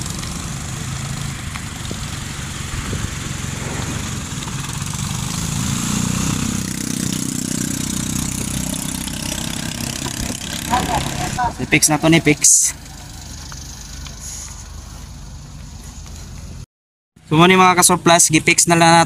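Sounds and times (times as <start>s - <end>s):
diesel engine running: 0.0s - 16.6s.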